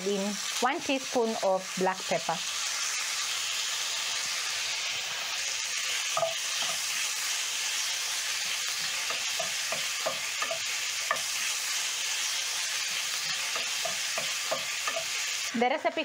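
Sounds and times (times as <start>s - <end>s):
steak sizzling in a frying pan: 0.0s - 16.0s.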